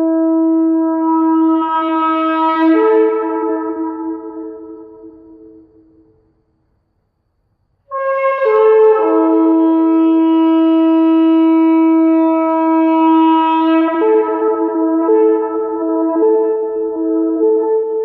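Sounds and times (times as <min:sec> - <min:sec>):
shofar blast: 0:00.0 - 0:05.6, 0:07.9 - 0:18.0.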